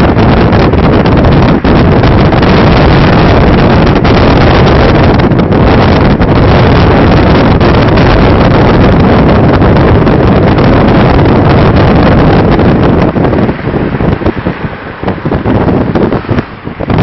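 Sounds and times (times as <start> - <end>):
car engine: 0.0 - 17.0
road noise: 0.0 - 17.0
wind buffeting microphone: 0.0 - 17.0.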